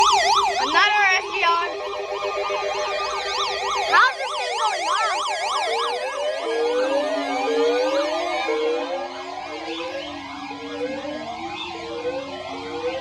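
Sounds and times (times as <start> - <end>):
electronic siren sweeping: 0.0 - 13.0.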